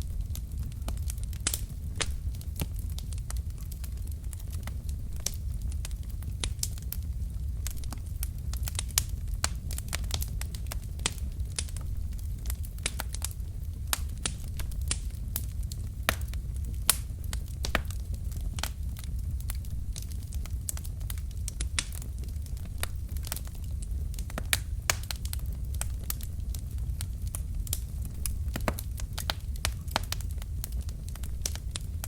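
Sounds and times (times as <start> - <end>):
fire pops and snaps: 0.0 - 32.0
low rumble of flames: 0.0 - 32.0
wood fire crackling: 0.0 - 32.0.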